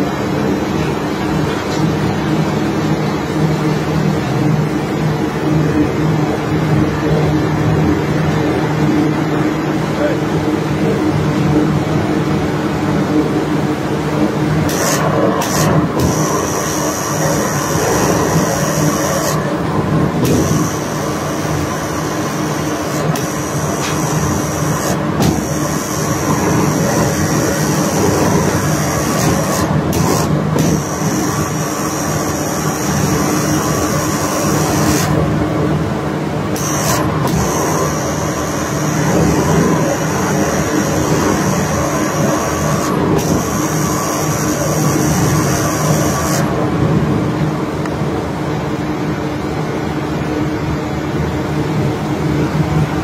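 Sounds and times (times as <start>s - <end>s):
heavy diesel machinery droning: 0.0s - 53.0s
thin high whine: 0.0s - 53.0s.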